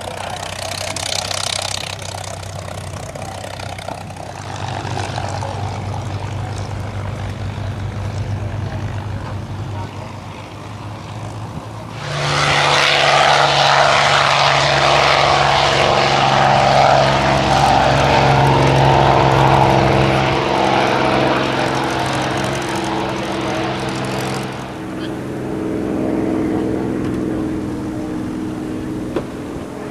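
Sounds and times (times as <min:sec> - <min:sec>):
propeller aircraft engine drone: 0:00.0 - 0:29.9.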